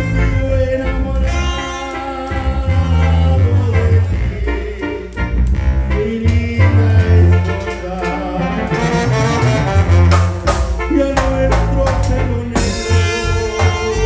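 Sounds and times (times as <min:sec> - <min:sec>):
band music with saxophone and brass: 0:00.0 - 0:14.0.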